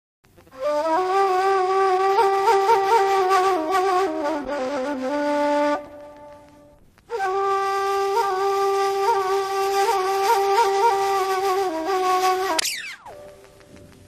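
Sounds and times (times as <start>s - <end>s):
solo flute melody: 0.5s - 13.9s.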